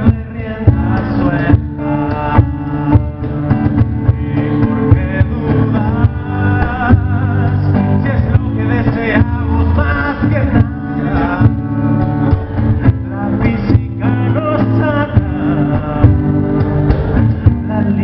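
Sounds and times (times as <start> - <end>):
cajon beat: 0.0 - 18.0
man singing: 0.0 - 18.0
strummed acoustic guitar: 0.0 - 18.0.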